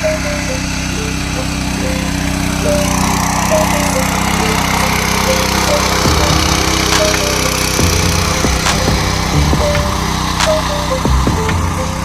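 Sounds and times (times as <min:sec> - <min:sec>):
background music: 0:00.0 - 0:12.0
small engine running: 0:00.0 - 0:12.0.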